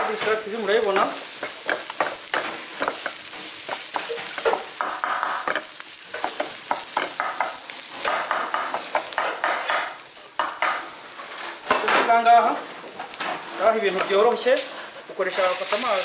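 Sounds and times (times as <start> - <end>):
vegetables sizzling in hot oil: 0.0 - 16.0
wooden spatula scraping pan: 0.2 - 11.9, 13.1 - 16.0.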